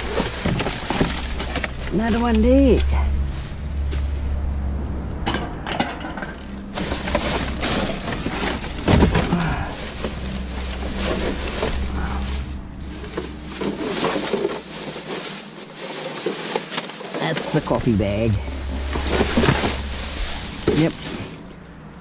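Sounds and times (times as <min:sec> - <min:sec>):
plastic bags rustling: 0:00.0 - 0:04.4, 0:06.2 - 0:22.0
steady low hum: 0:00.0 - 0:22.0.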